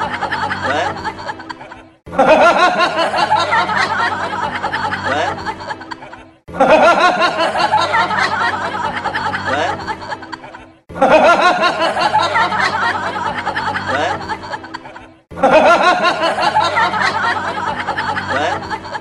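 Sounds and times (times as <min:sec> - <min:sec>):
laughing sound effect: 0:00.0 - 0:19.0
music: 0:00.0 - 0:19.0.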